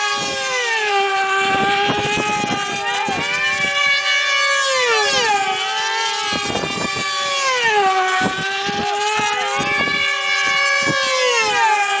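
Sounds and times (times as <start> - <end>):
model aircraft engines screaming: 0.0 - 12.0.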